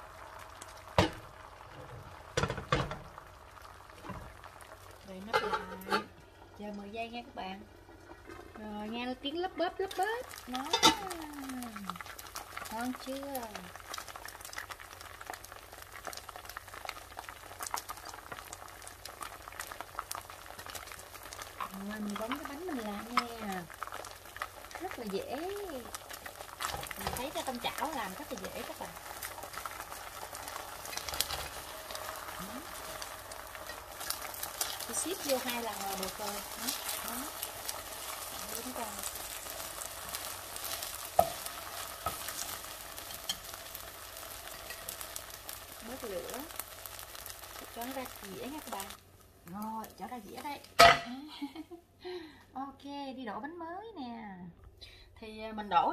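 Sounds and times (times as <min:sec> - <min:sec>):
batter bubbling and popping in pan: 0:00.0 - 0:52.4.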